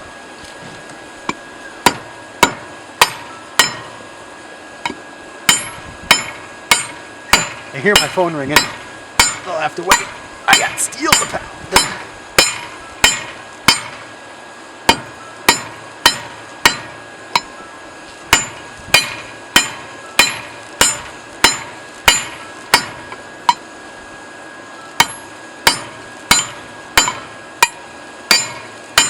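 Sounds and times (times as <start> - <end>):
hammer blows on hot steel: 1.3 - 4.0, 4.8 - 14.1, 14.9 - 17.6, 18.2 - 23.6, 25.0 - 29.0.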